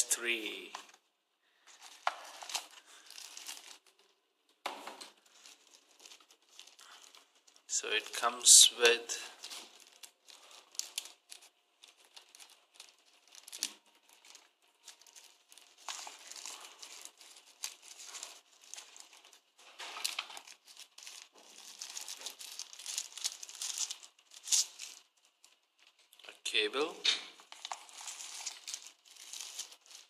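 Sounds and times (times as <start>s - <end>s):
wrapping crinkling and rustling: 0.0s - 30.0s.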